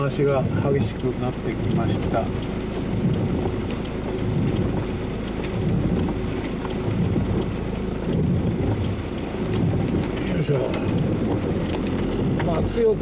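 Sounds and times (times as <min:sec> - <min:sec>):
low rumble: 0:00.0 - 0:13.0
rain ticking on a car: 0:00.0 - 0:13.0.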